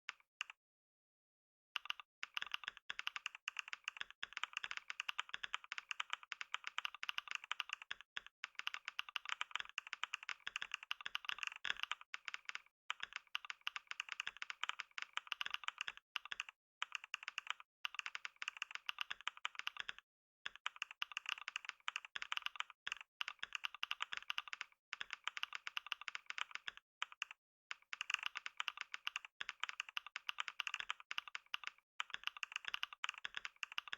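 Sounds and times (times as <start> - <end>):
rapid keyboard typing: 1.8 - 33.9.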